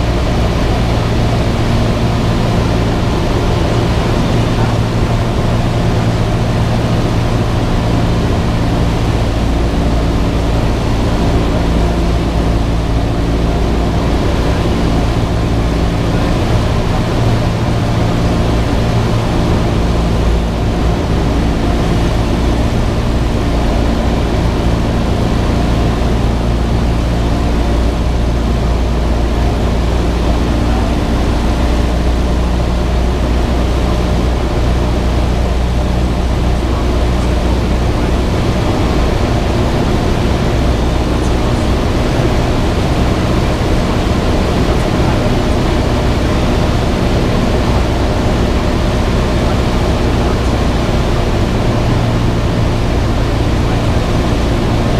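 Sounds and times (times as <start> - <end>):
propeller airplane engine droning: 0.0 - 54.9.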